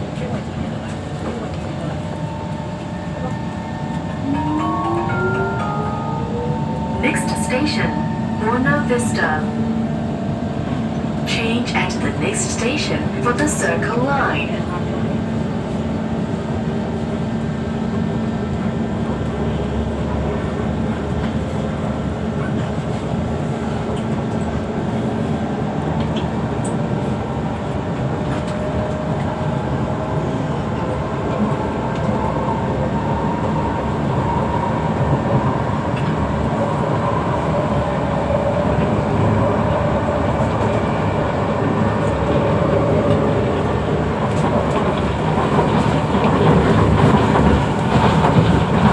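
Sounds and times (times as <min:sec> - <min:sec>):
train wheels rumbling on rail: 0:00.0 - 0:04.2, 0:06.5 - 0:48.9.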